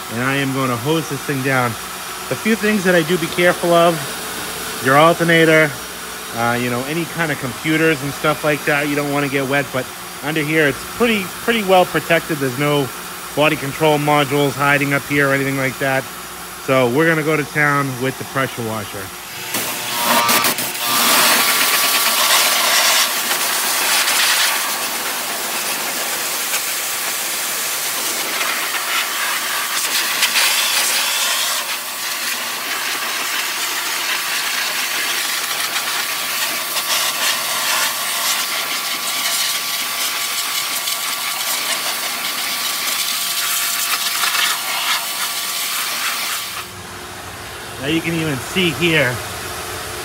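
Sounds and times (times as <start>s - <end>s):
pressure washer spraying water: 0.0s - 16.2s, 17.4s - 46.7s.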